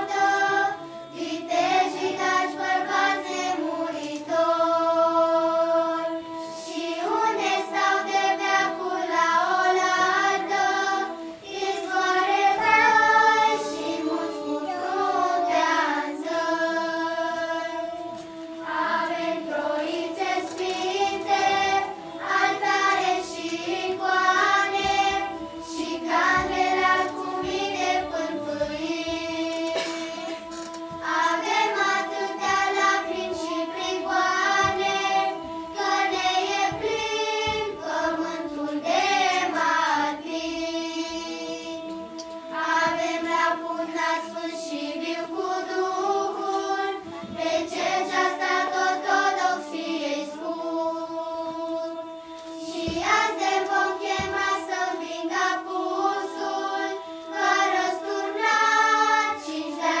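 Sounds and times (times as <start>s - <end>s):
children's choir singing: 0.0s - 60.0s
held accompaniment notes: 0.0s - 60.0s.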